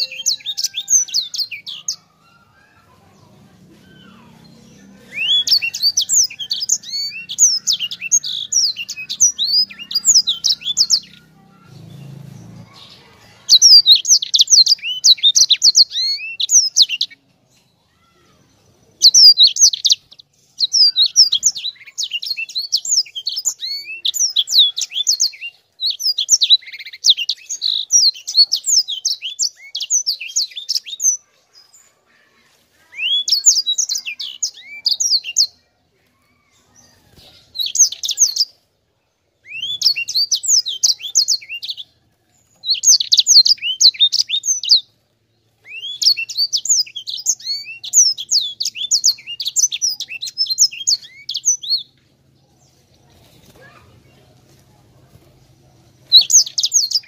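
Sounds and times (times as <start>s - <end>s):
bird singing chirps and trills: 0.0s - 35.7s, 36.3s - 38.6s, 39.4s - 54.5s, 56.0s - 57.0s.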